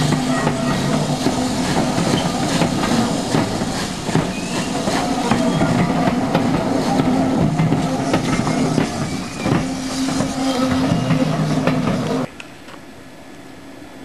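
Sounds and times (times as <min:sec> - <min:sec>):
steam hissing: 0:00.0 - 0:12.3
train wheels clicking over rail joints: 0:00.0 - 0:12.3.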